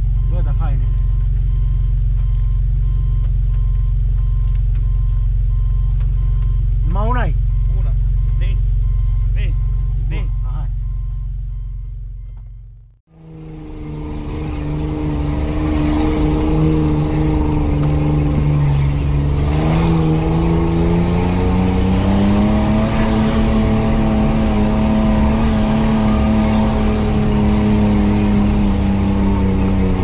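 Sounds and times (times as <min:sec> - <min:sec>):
off-road vehicle engine under load: 0:00.0 - 0:30.0.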